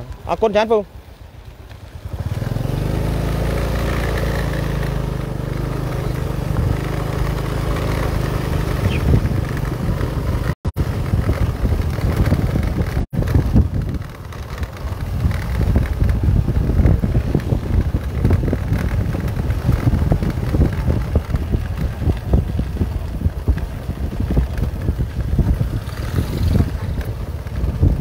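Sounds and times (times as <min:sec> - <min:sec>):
vehicle road noise: 0:00.0 - 0:28.0
wind buffeting microphone: 0:01.8 - 0:28.0.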